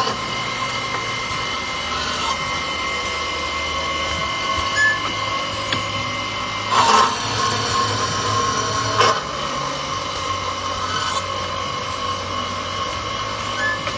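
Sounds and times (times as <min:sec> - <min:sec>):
louder bursts of saw noise: 0:00.0 - 0:13.9
metal-sawing machine whine: 0:00.0 - 0:13.9.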